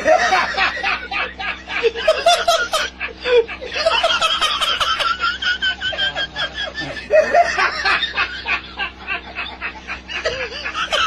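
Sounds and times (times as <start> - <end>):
person snickering and chuckling: 0.0 - 11.0.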